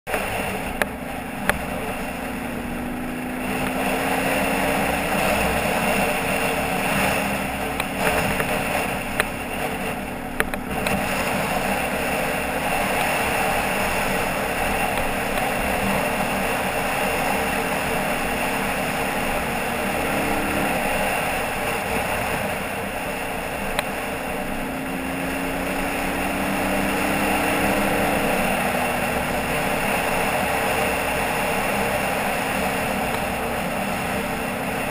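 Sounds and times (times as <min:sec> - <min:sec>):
tyres and wind rushing: 0:00.1 - 0:34.9
vehicle engine cruising: 0:00.1 - 0:34.9.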